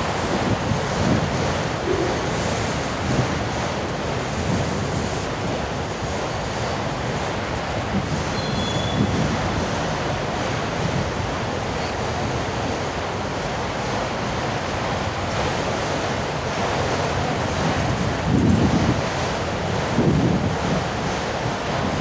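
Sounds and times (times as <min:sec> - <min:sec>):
wind buffeting microphone: 0:00.0 - 0:15.8, 0:16.5 - 0:22.0.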